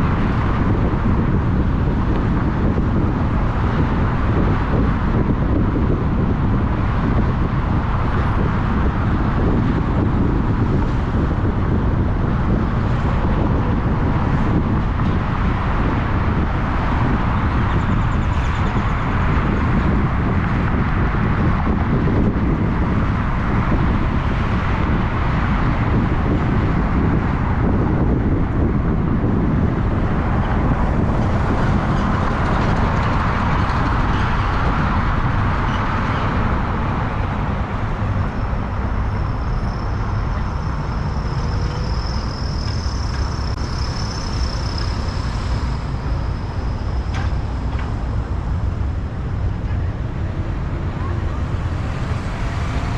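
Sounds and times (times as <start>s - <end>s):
car road noise: 0.0s - 52.9s.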